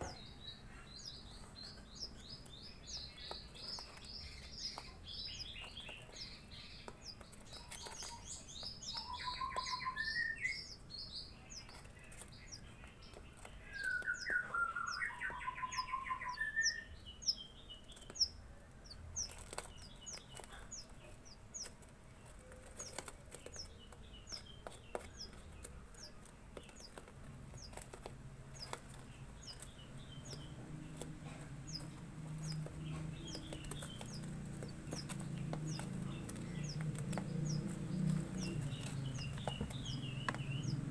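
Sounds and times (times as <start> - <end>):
young birds chirping: 0.0 - 40.9.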